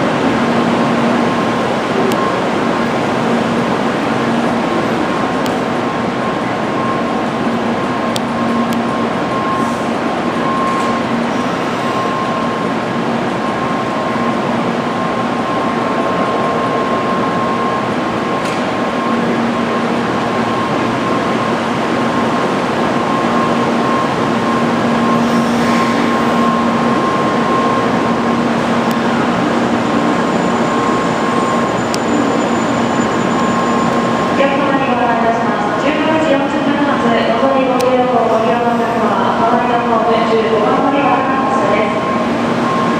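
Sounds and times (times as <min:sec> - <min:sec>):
train equipment hum and hiss: 0:00.0 - 0:42.9.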